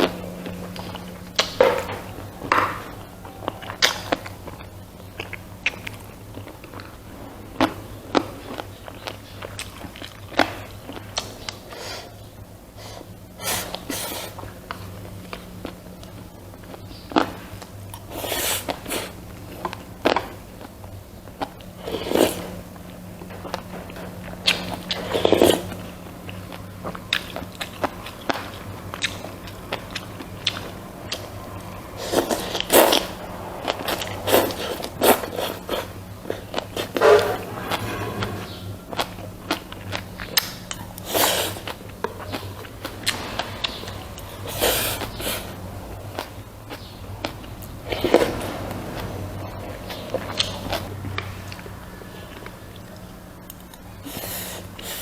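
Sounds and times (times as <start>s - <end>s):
chewing: 0.0s - 55.0s
steady low hum: 0.0s - 55.0s.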